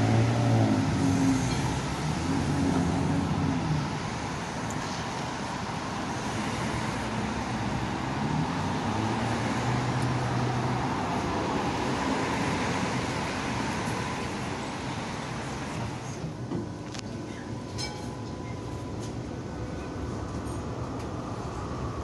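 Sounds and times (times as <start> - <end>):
road traffic passing: 0.0 - 22.0
tram rolling on rails: 0.0 - 22.0.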